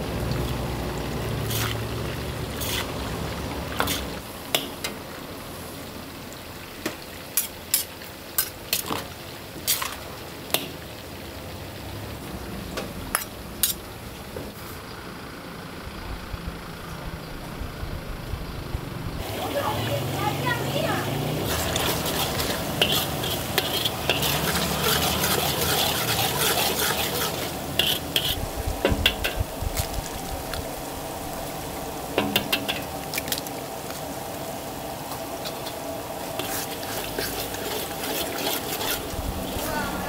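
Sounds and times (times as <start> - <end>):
frying sizzle in a wok: 0.0 - 40.0.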